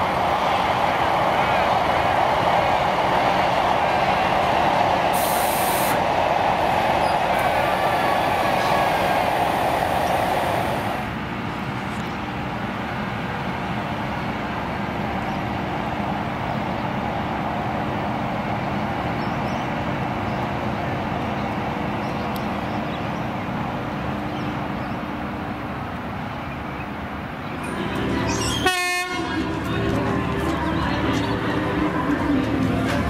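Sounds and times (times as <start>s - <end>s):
electric train rumble: 0.0s - 33.0s.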